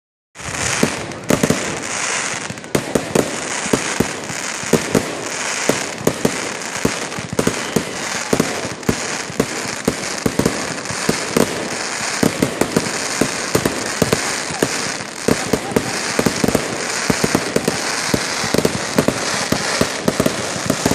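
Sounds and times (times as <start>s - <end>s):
fireworks hissing and cracking: 0.4s - 20.9s.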